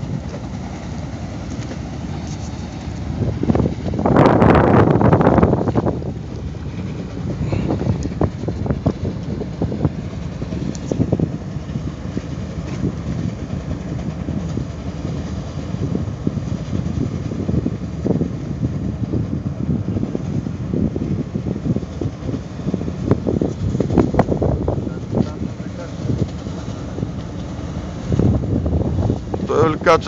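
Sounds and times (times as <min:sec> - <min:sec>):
boat engine rumbling: 0:00.0 - 0:30.0
wind buffeting microphone: 0:00.0 - 0:30.0.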